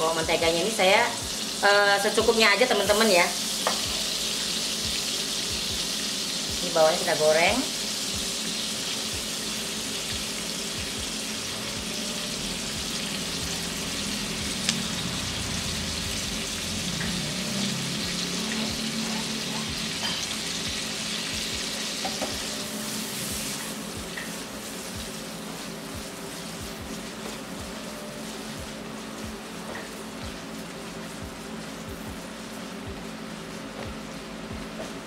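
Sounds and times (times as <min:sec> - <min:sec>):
shallots sizzling in butter: 0:00.0 - 0:35.0.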